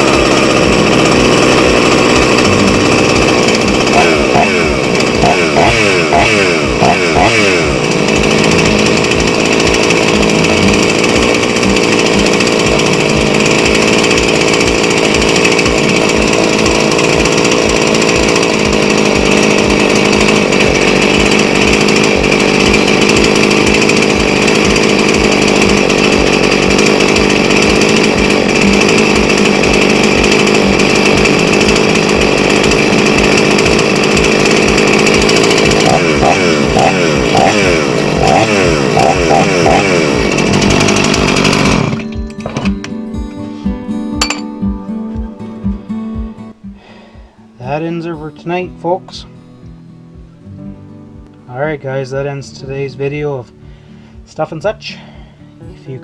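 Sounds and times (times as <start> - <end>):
chainsaw engine running: 0.0 - 50.6, 51.2 - 56.0.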